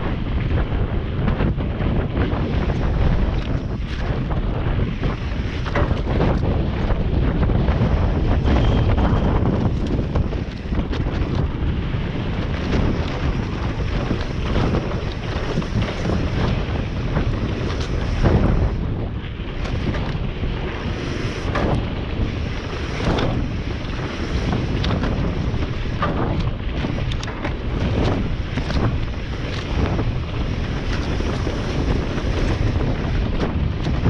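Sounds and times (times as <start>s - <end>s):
bike rattling over rough ground: 0.0s - 34.0s
wind rushing over microphone: 0.0s - 34.0s.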